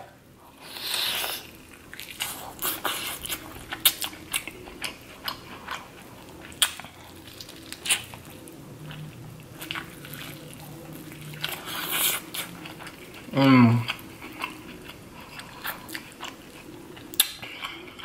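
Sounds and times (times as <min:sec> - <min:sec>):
chewing corn on the cob: 0:01.0 - 0:18.0.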